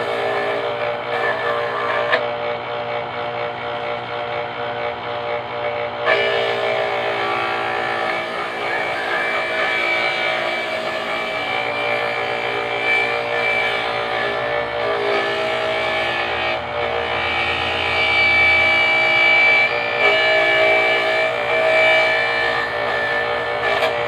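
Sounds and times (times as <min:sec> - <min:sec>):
root grinding on grater: 0:00.0 - 0:02.3, 0:06.1 - 0:24.0
small electric motor whining: 0:00.0 - 0:24.0.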